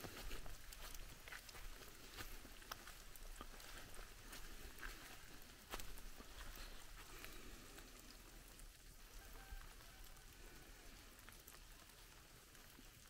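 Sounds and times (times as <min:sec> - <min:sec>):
rainwater dripping: 0:00.0 - 0:13.0.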